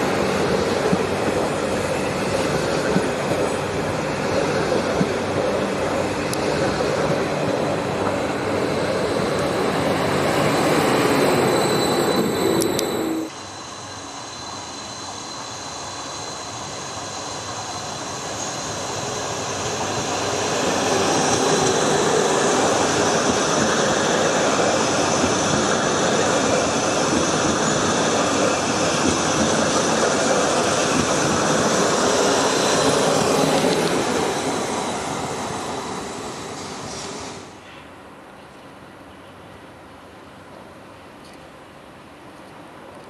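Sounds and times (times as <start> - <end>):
electric train passing on rails: 0.0 - 43.0.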